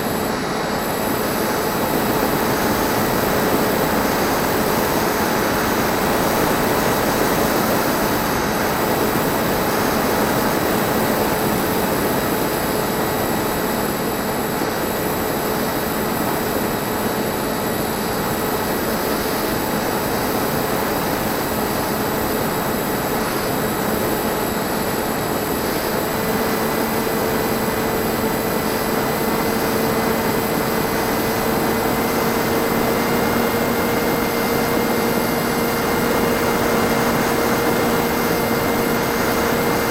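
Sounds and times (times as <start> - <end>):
electric motor and propeller whine: 0.0 - 39.9.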